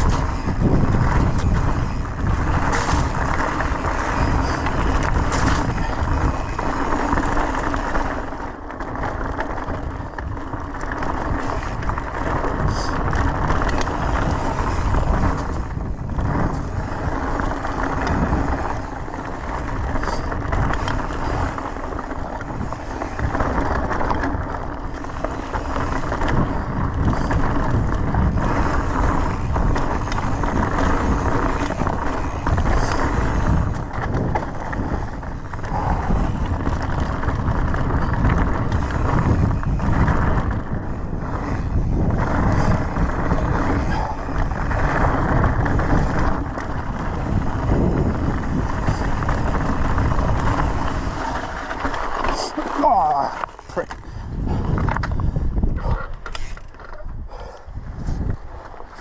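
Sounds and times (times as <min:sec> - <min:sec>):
bike rattling and knocking: 0:00.0 - 0:59.0
bike tyres crunching over gravel: 0:00.0 - 0:59.0.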